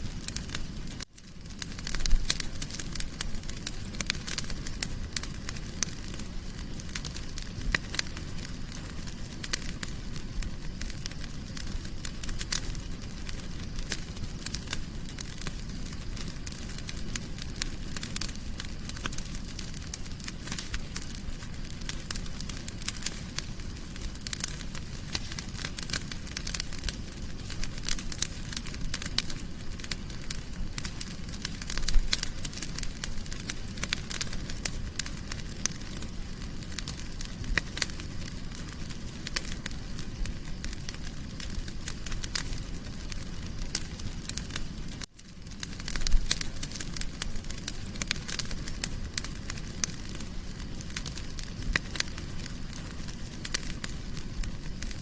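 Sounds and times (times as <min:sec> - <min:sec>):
low rumble of flame: 0:00.0 - 0:55.0
wood fire crackling: 0:00.0 - 0:55.0.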